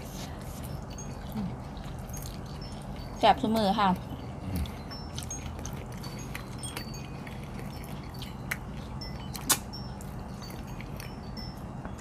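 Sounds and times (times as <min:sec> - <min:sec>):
low steady hum: 0:00.0 - 0:12.0
light high tinkles: 0:00.4 - 0:12.0.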